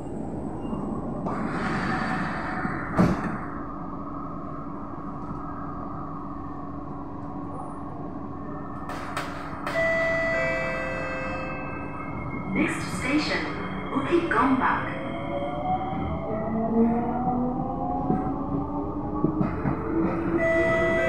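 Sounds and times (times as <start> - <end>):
standing train hum: 0.0 - 21.0.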